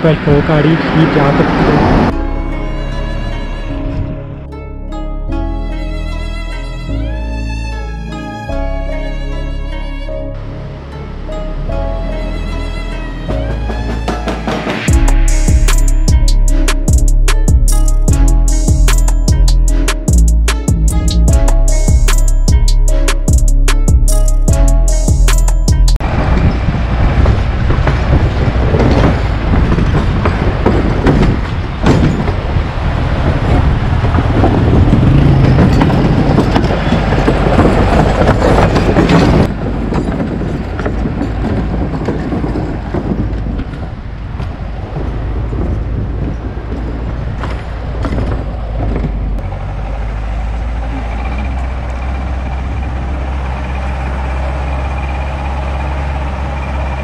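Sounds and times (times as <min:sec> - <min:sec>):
engine hum: 0:00.0 - 0:57.0
off-road vehicle rumbling: 0:00.0 - 0:57.0.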